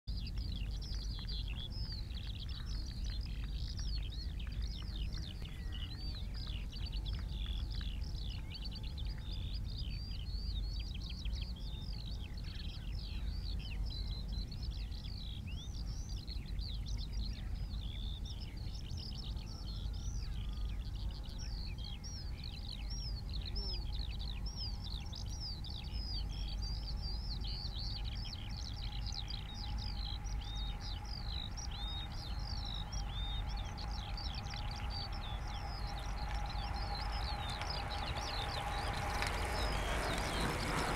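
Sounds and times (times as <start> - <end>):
small birds singing: 0.0 - 40.9
faint steady hum: 0.1 - 40.9.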